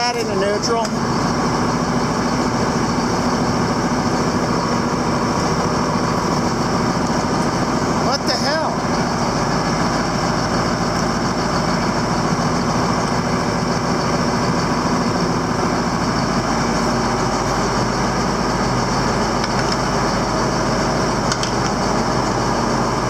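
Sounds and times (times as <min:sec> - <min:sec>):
farm machinery engine idling: 0:00.0 - 0:23.0.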